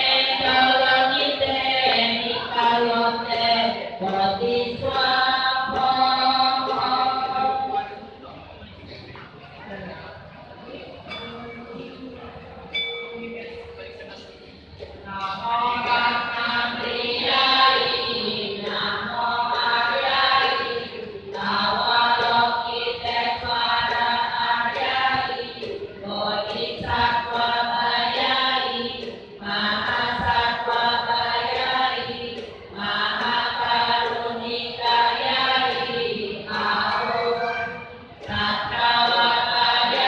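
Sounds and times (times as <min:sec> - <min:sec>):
congregation chanting in unison: 0:00.0 - 0:08.1, 0:15.1 - 0:40.0.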